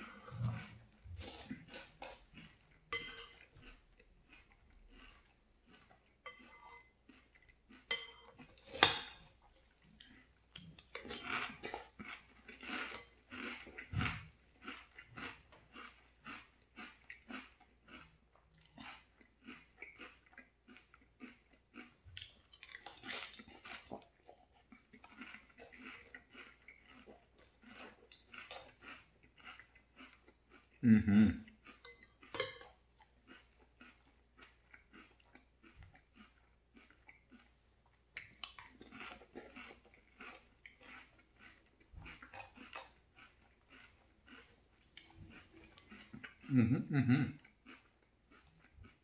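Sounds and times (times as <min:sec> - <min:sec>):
crunchy cereal chewing: 0:00.0 - 0:49.0.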